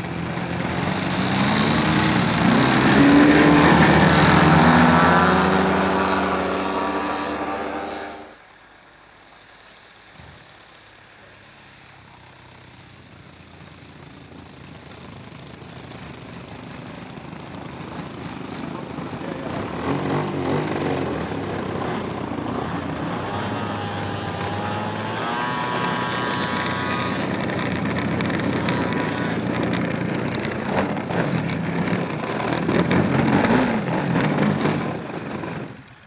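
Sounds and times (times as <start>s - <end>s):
fainter engine: 0.0s - 36.0s
model aircraft engine flying by: 0.0s - 36.0s.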